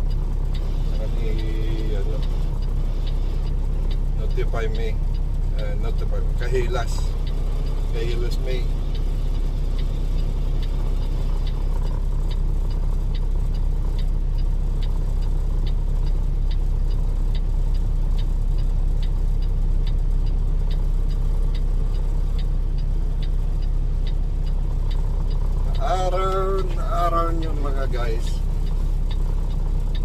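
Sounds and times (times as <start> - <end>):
truck engine and road rumble: 0.0 - 30.0
turn signal ticking: 0.0 - 30.0.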